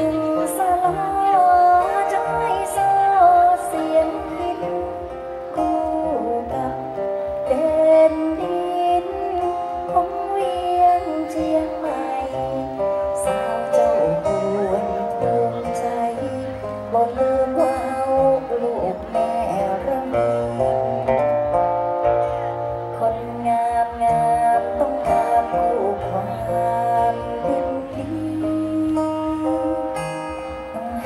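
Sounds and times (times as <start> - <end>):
guitar accompaniment: 0.0 - 31.0
woman singing into microphone: 0.0 - 31.0.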